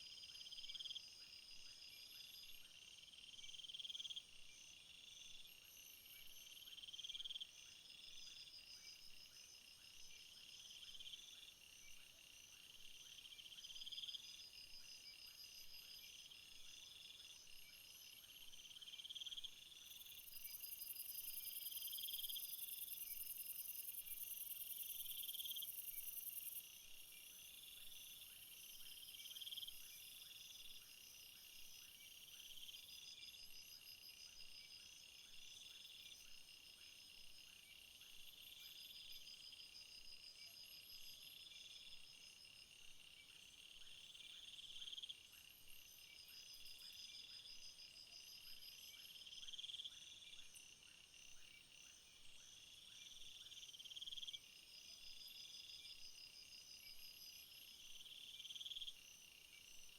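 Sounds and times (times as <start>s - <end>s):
crickets and insects chirping: 0.0s - 59.9s.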